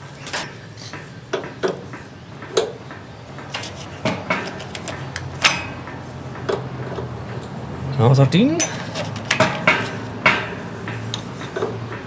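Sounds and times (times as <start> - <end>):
metal spanners clinking: 0.0 - 12.0.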